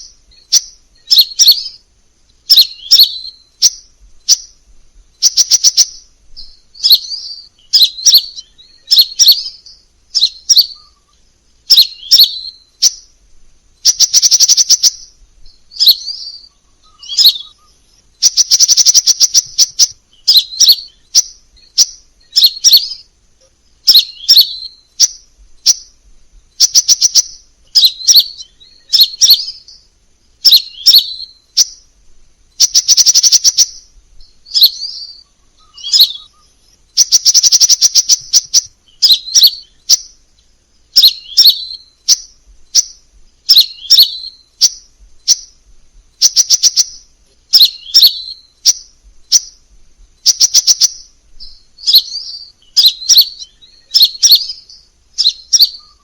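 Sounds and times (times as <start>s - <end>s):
bird chattering song: 0.0s - 56.0s
rapid bird trills: 0.0s - 56.0s.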